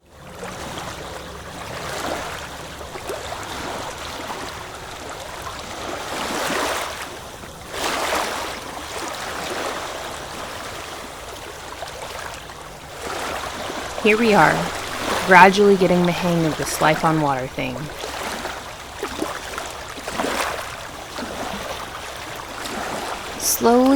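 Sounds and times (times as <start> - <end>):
water rushing along boat hull: 0.1 - 23.9.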